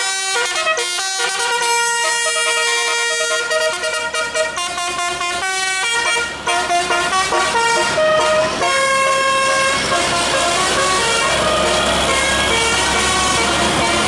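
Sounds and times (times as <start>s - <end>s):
musical air horn tune: 0.0s - 14.0s.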